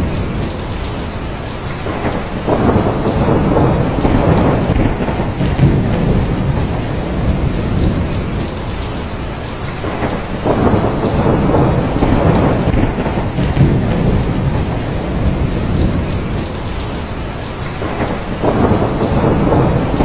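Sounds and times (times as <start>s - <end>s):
heavy rain: 0.0s - 20.0s
rolling thunder: 0.0s - 20.0s.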